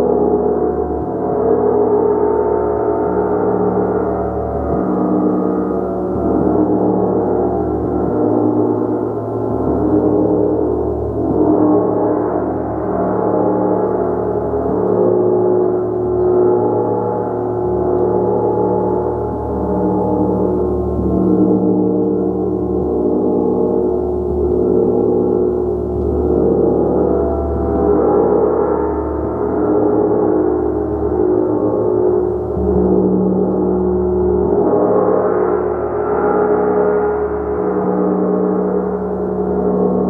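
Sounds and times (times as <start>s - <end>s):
gong played with soft strokes: 0.0s - 40.0s.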